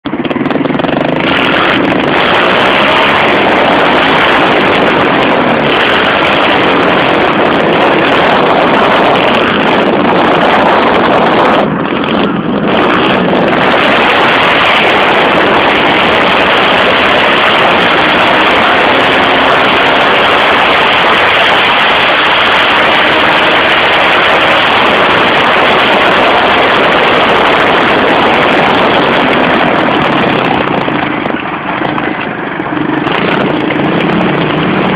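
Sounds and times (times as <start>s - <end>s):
loud even rush of noise: 0.0s - 34.9s
pit bike engine revving: 0.0s - 34.9s.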